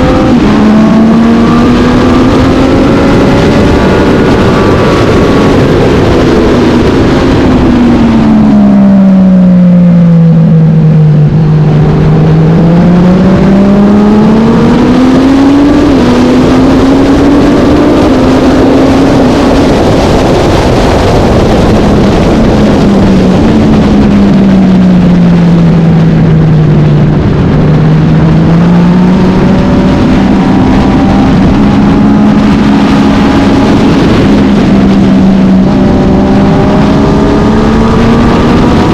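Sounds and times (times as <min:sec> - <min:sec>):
racing motorcycle engine: 0:00.0 - 0:38.9
wind and road noise: 0:00.0 - 0:38.9.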